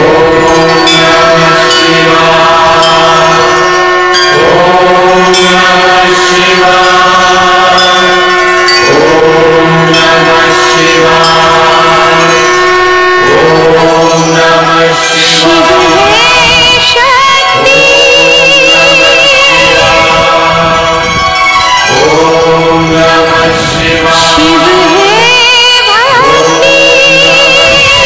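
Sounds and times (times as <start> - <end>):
voice chanting: 0.0 - 21.3, 21.9 - 28.0
steady drone: 0.0 - 28.0.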